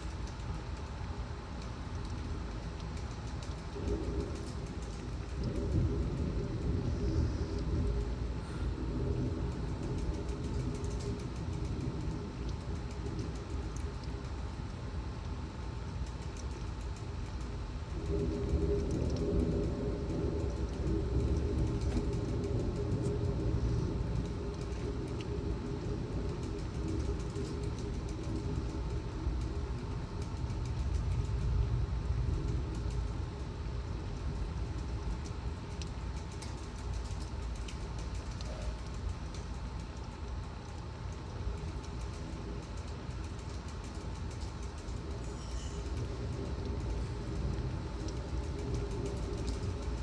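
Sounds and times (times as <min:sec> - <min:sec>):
faint scattered ticks: 0:00.0 - 0:50.0
storm wind: 0:00.0 - 0:50.0.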